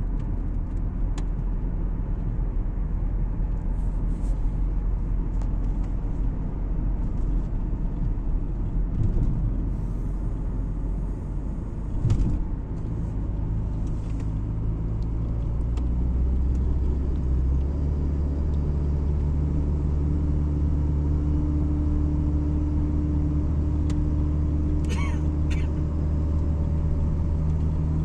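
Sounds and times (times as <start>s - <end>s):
engine and tyres rumbling: 0.0s - 28.0s.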